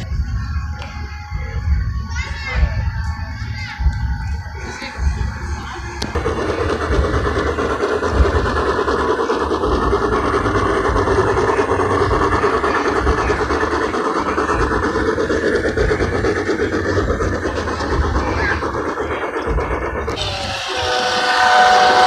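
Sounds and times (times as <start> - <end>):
model train running on track: 0.0 - 22.0.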